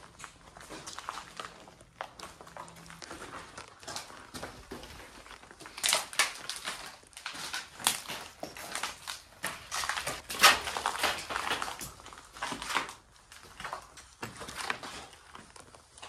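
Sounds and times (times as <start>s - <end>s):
footsteps crunching on debris: 0.0s - 16.0s.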